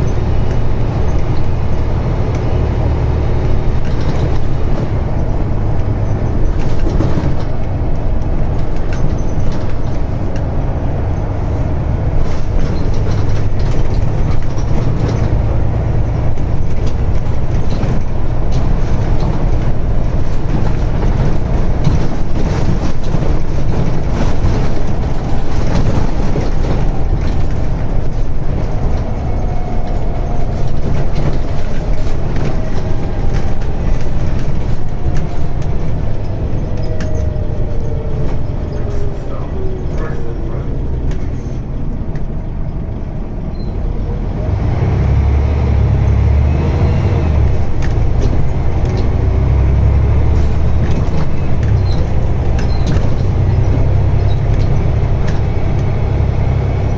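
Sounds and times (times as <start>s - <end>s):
rattles: 0.0s - 42.8s, 47.3s - 56.1s
bus diesel engine droning: 0.0s - 56.9s.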